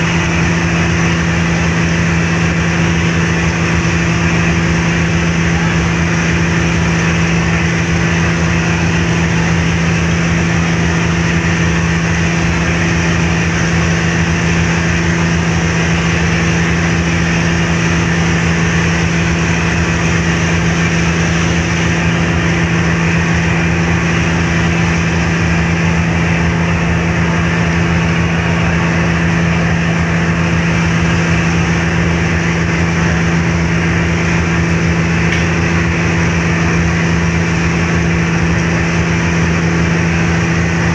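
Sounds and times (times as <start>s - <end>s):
ship engine humming: 0.0s - 40.9s.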